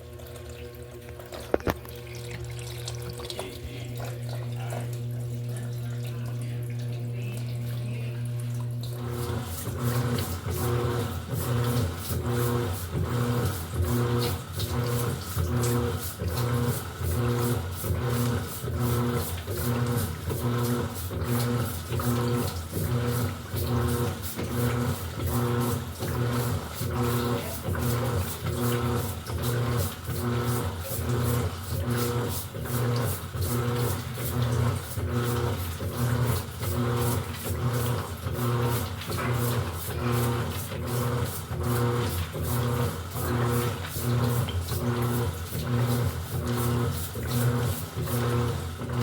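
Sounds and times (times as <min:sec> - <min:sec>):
washing load churning: 0:00.0 - 0:49.0
washing machine motor humming: 0:00.0 - 0:49.0.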